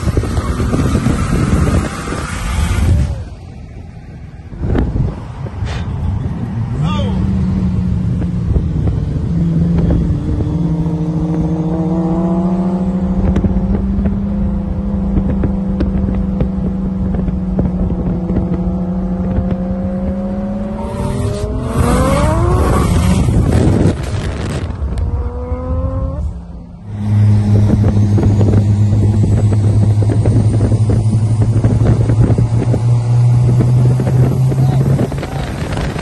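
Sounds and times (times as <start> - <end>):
race car engine: 0.0 - 36.0.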